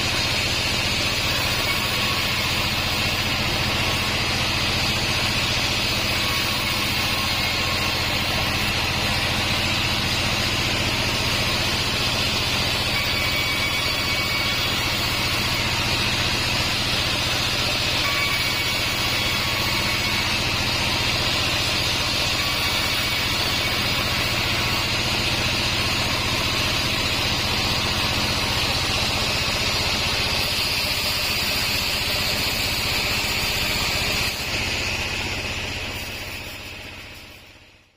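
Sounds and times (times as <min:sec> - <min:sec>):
band sawmill running: 0:00.0 - 0:37.9.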